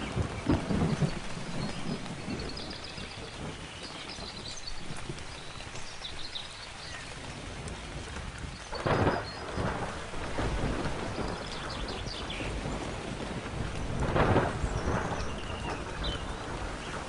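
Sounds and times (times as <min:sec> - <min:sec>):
birds chirping: 0:00.0 - 0:07.5, 0:08.4 - 0:12.9, 0:13.8 - 0:17.0
steady rain: 0:00.0 - 0:17.0
thunderclap and rolling rumble: 0:00.0 - 0:17.0.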